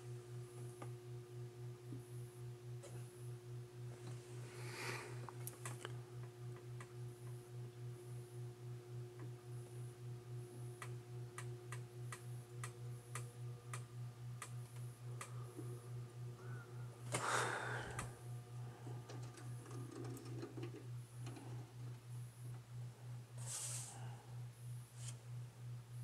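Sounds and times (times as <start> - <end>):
pulsing electrical hum: 0.0 - 26.0.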